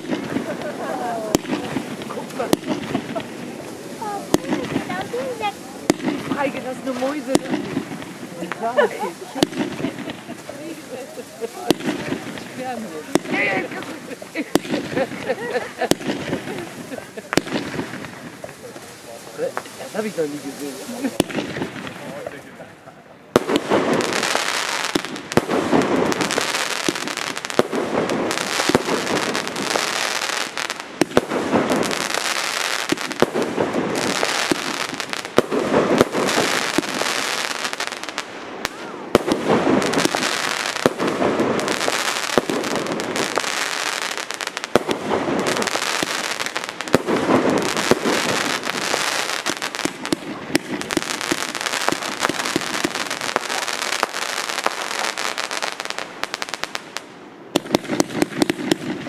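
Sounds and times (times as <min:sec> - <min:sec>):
fireworks booms: 0:00.0 - 0:22.6, 0:23.3 - 0:59.0
fireworks crackling: 0:00.0 - 0:59.0.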